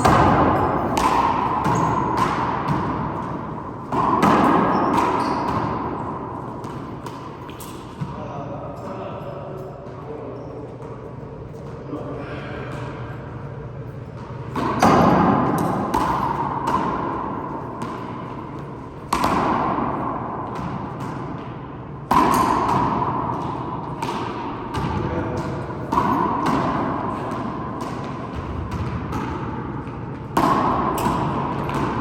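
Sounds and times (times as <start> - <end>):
handball hitting walls with echo: 0.0 - 32.0.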